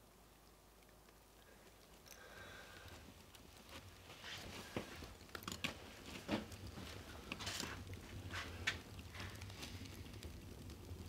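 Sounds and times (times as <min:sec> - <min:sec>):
fire crackling in wood stove: 0:00.0 - 0:11.0.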